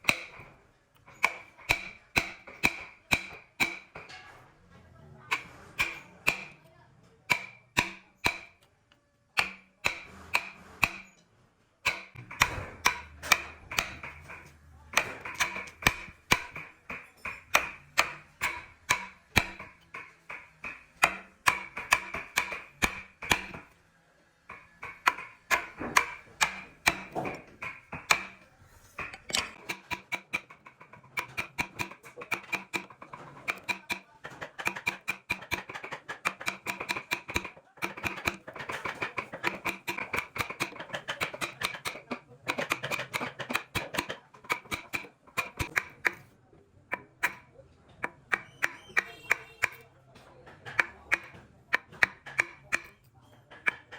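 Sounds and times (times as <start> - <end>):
hammer tapping chisel into wood: 0.0 - 4.1, 5.3 - 6.6, 7.3 - 8.6, 9.4 - 11.1, 11.8 - 23.8, 24.5 - 28.4, 29.0 - 46.3, 46.9 - 49.9, 50.5 - 53.9.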